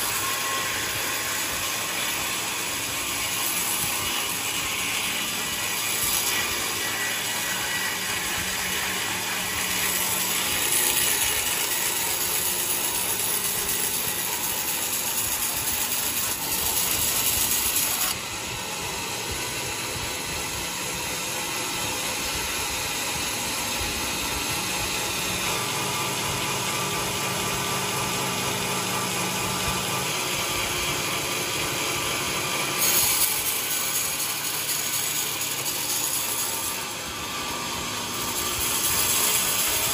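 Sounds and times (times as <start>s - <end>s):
saw cutting through wood: 0.0s - 39.9s
sawmill machinery running: 0.0s - 39.9s.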